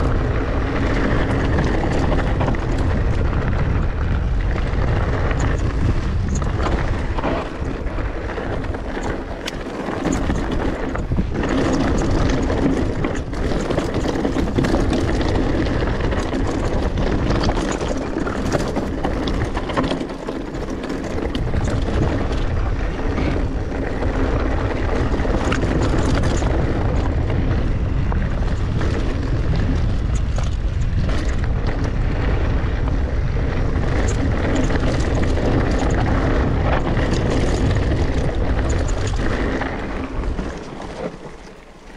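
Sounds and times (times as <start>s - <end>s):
bike knocking and rattling: 0.0s - 41.9s
bike tyres on dirt and stones: 0.0s - 41.9s
wind noise on microphone: 0.0s - 41.9s.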